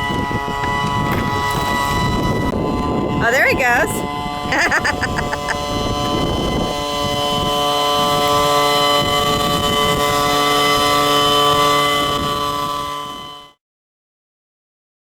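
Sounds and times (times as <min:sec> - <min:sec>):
leaf blower engine running: 0:00.0 - 0:13.5.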